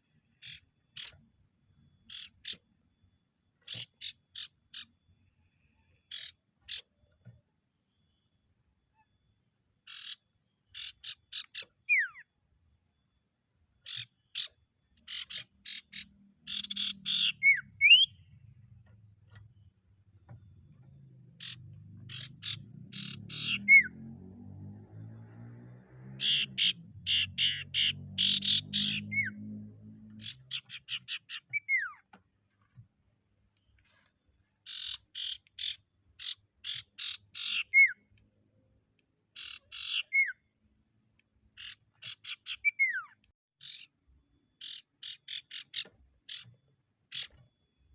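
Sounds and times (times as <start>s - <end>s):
bird singing: 0.0s - 7.4s, 8.9s - 12.4s, 13.2s - 32.7s, 33.5s - 40.6s, 41.2s - 47.9s.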